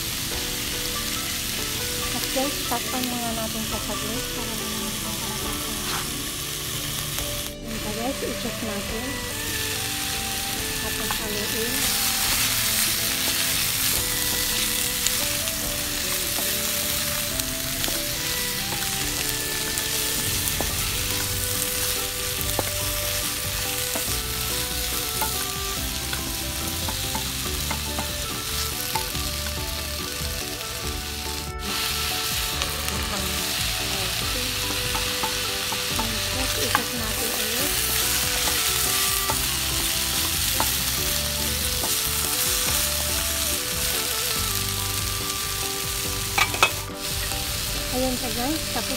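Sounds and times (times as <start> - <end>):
vegetables sizzling in a wok: 0.0 - 48.9
wooden spatula stirring: 9.3 - 48.9.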